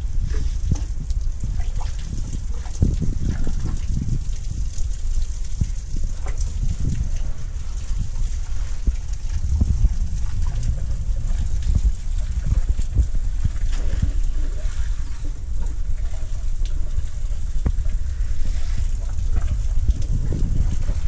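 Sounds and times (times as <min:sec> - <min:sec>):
water sloshing and splashing: 0:00.0 - 0:21.0
wind rumble on microphone: 0:00.0 - 0:21.0.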